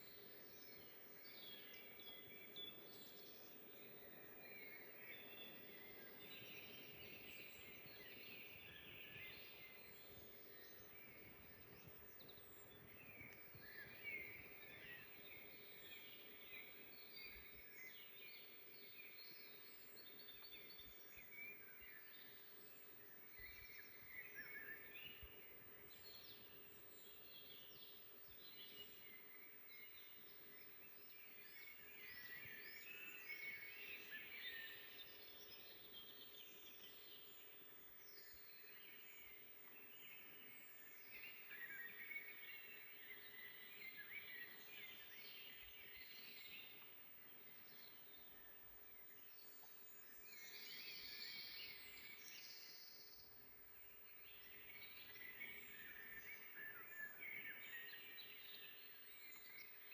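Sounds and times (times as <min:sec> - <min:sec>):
faint steady hiss: 0:00.0 - 0:59.9
songbirds chirping and trilling: 0:00.0 - 0:59.9.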